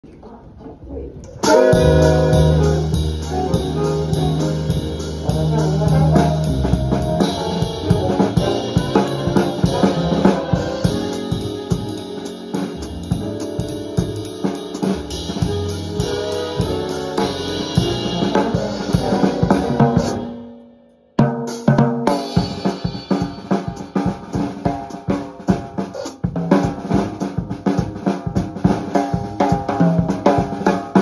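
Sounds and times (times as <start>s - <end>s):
drum kit played with sticks: 1.3s - 31.0s
jazz big band playing: 1.4s - 20.6s, 21.4s - 31.0s.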